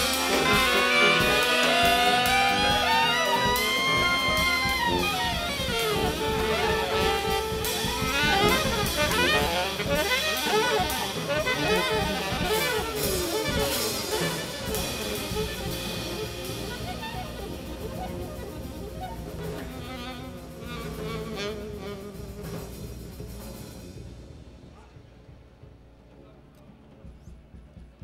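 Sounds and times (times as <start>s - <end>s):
jazz orchestra playing: 0.0s - 24.8s
cymbals: 0.0s - 27.9s.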